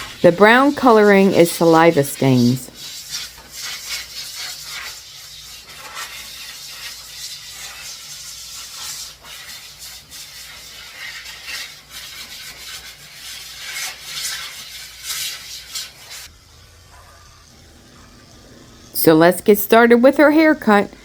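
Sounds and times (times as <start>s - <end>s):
rubbing and scraping: 0.0s - 18.2s.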